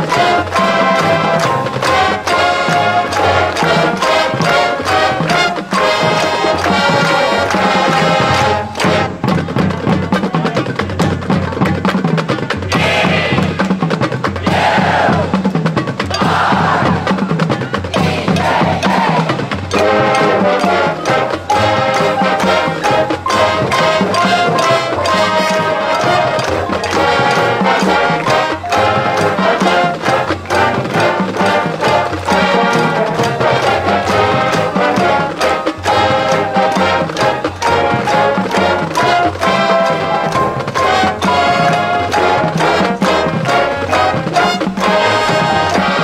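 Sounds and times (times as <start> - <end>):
brass playing: 0.0 - 9.6, 18.0 - 46.0
marching drums beat: 0.0 - 46.0.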